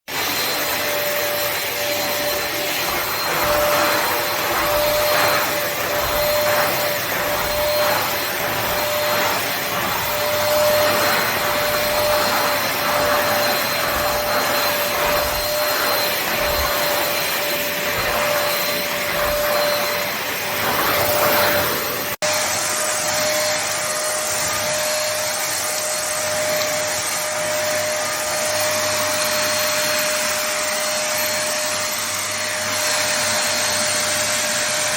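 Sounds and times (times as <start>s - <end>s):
vacuum cleaner running: 0.1s - 34.9s.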